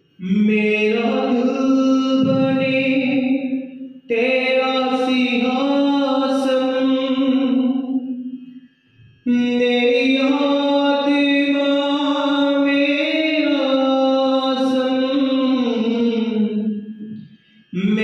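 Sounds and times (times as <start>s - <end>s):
man singing unaccompanied: 0.0s - 8.2s, 9.3s - 18.0s.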